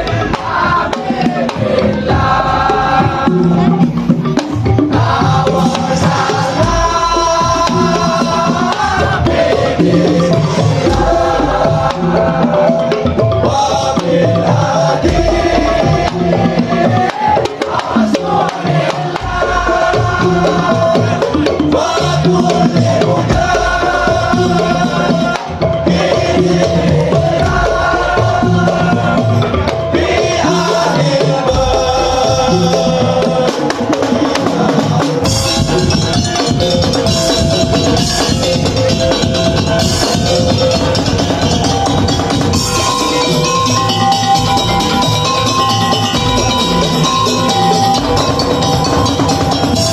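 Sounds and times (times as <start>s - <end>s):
pitched melody line: 0.0s - 49.9s
wooden slit drums and drums beating: 0.0s - 49.9s.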